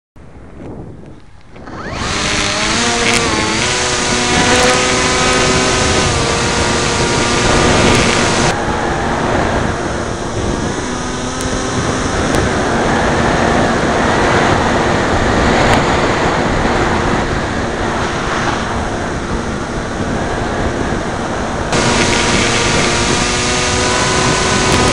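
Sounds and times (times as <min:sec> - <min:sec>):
wind buffeting microphone: 0:00.2 - 0:24.9
electric motor and propeller whining: 0:01.1 - 0:24.9.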